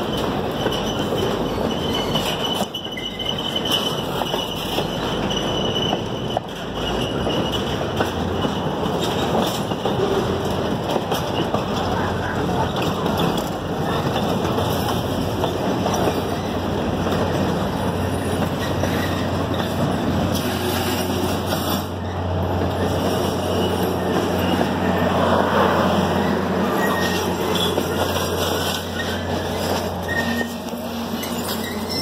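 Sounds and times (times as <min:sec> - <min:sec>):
train cars rolling on rails: 0:00.0 - 0:32.0.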